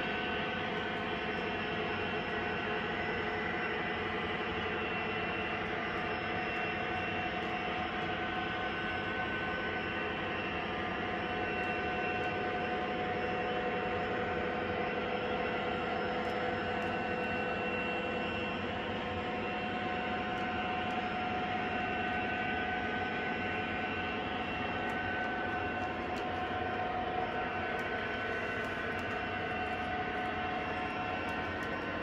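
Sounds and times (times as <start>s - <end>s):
constant hum: 0.0s - 32.0s.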